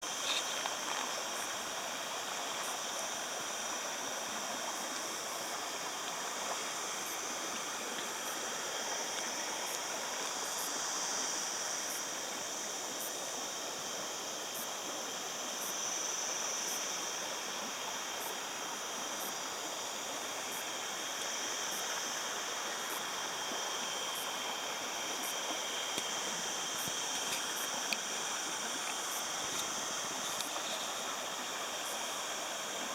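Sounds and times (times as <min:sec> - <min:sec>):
river water flowing: 0:00.0 - 0:32.9.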